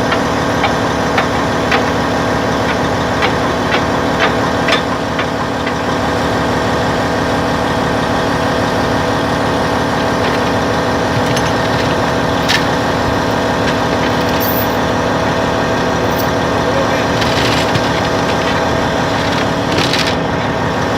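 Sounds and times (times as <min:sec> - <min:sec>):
bulldozer diesel engine idling: 0:00.0 - 0:20.9.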